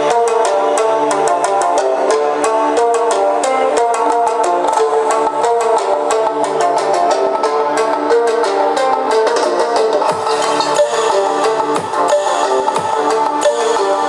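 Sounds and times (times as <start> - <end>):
song with plucked string instrument: 0.0 - 14.0.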